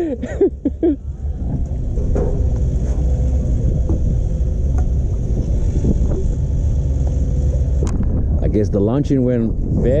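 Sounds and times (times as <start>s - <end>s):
boat motor rumbling: 0.0s - 10.0s.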